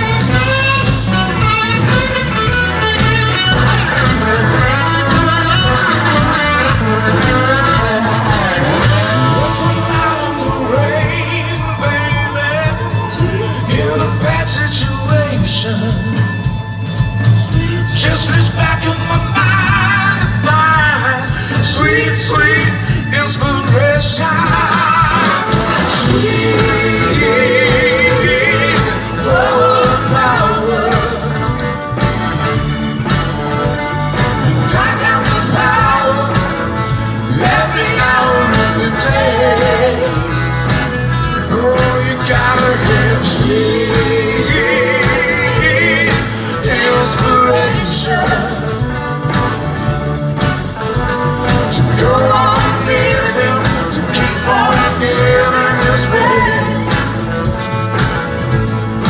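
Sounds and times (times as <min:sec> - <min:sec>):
person singing: 0:00.0 - 0:16.6, 0:17.3 - 0:31.8, 0:34.4 - 0:49.1, 0:51.5 - 0:57.6
live soul rock band: 0:00.0 - 0:59.0.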